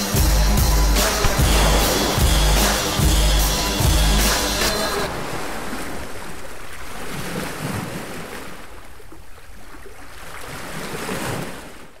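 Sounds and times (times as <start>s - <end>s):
ocean waves breaking on a beach: 1.0s - 12.0s.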